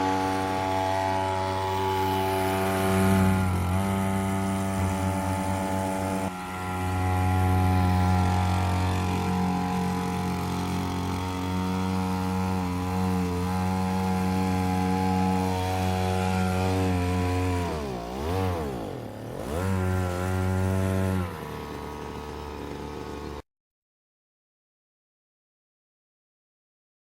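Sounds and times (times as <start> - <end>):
outboard motor running: 0.0 - 23.4.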